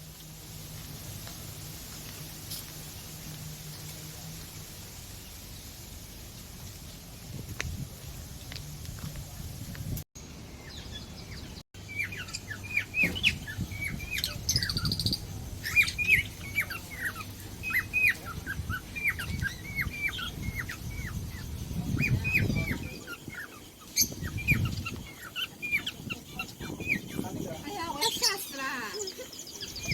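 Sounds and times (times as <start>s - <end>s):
small birds chirping: 1.2s - 29.9s.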